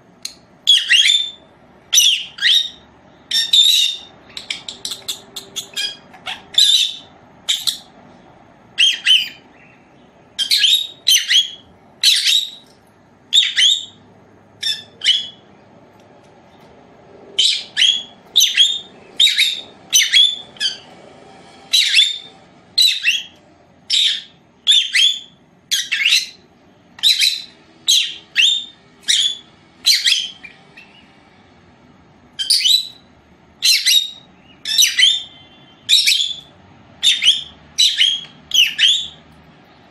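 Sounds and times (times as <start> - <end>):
lovebird shrill chirps and squawks: 0.6 - 8.0, 8.8 - 14.0, 14.6 - 15.4, 17.4 - 21.0, 21.7 - 31.1, 32.4 - 39.3.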